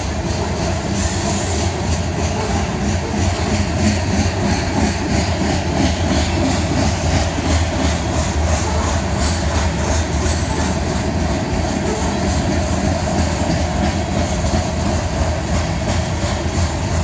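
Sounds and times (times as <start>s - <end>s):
freight train wheels rumbling: 0.0s - 17.0s
train wheels clattering: 0.0s - 17.0s.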